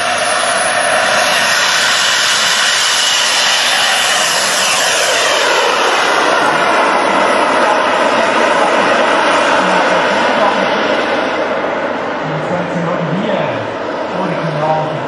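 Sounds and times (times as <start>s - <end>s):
model jet engines whining: 0.0s - 15.0s.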